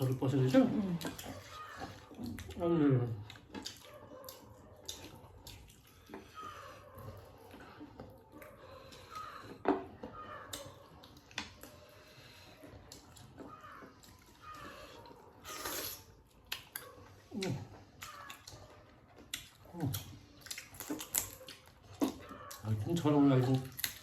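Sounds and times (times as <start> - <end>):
wet chewing and lip smacking: 0.0 - 24.0.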